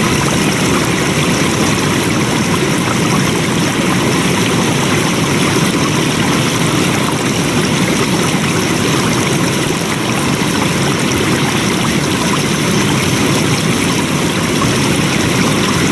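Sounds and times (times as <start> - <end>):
stream rushing: 0.0 - 15.9.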